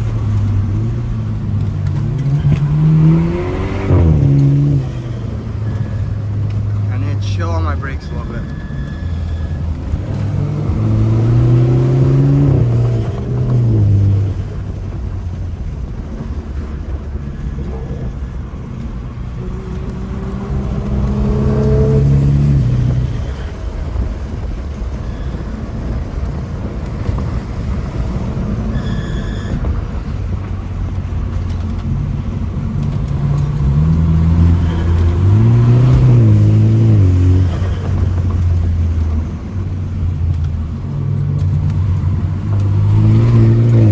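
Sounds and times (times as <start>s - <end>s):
car engine pulling hard: 0.0s - 43.9s.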